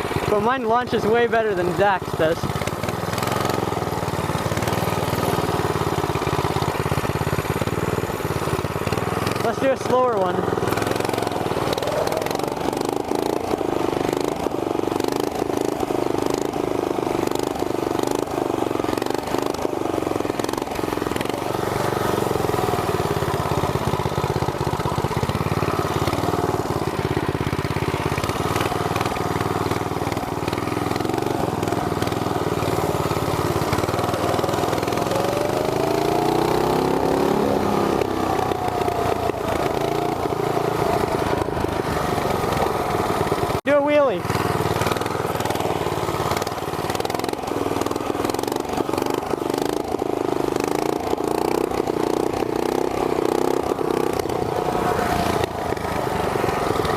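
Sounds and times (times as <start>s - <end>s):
small engines running: 0.0s - 56.9s.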